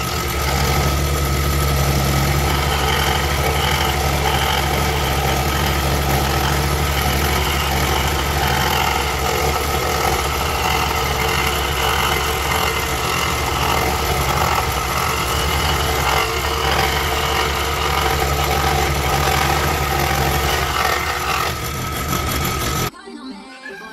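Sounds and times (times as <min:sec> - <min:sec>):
scroll saw cutting wood: 0:00.0 - 0:22.9.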